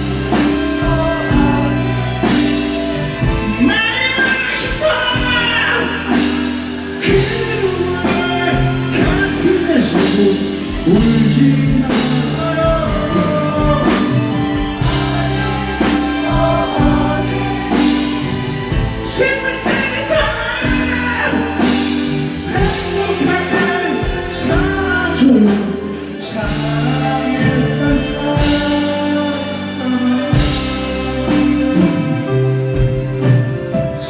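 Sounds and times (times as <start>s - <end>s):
live band music: 0.0s - 34.0s
person singing: 0.0s - 34.0s.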